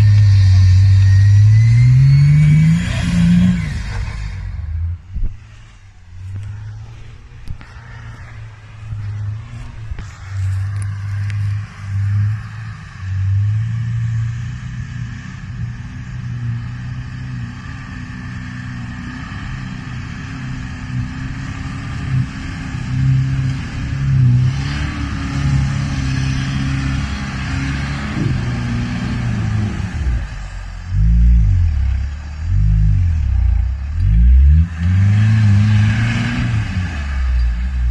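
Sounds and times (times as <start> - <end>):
vehicle engine revving: 0.0 - 37.9.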